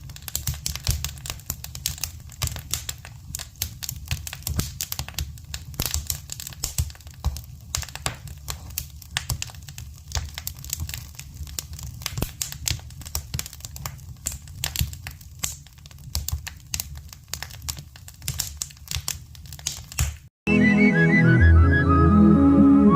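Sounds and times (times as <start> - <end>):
low rumble of fire: 0.0 - 20.0
campfire crackling: 0.0 - 20.3.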